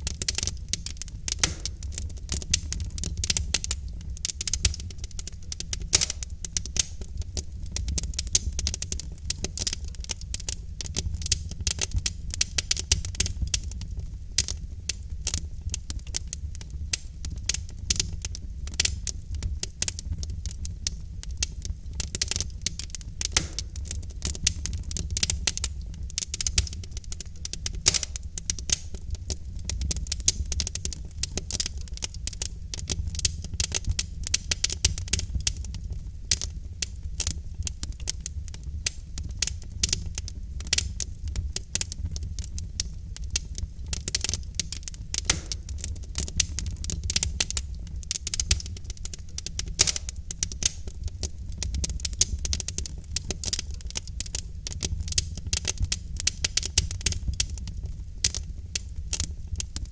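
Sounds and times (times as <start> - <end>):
logs crackling in fireplace: 0.0 - 59.9.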